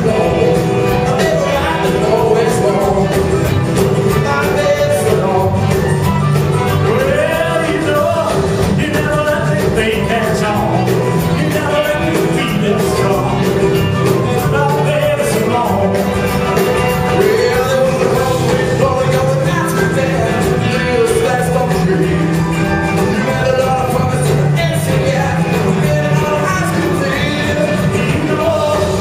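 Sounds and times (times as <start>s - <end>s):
person singing: 0.0s - 29.0s
rockabilly band playing live: 0.0s - 29.0s.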